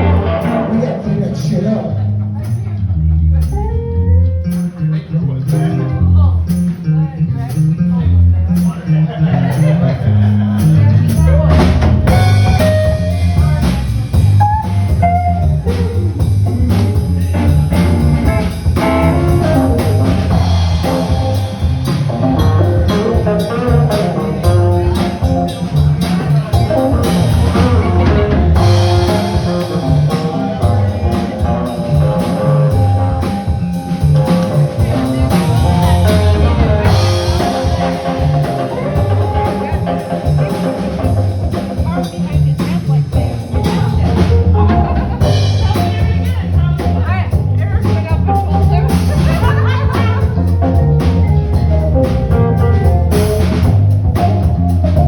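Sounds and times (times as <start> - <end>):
deep bass line: 0.0 - 55.0
live band playing: 0.0 - 55.0
drum kit steady beat: 5.5 - 6.8, 8.4 - 55.0.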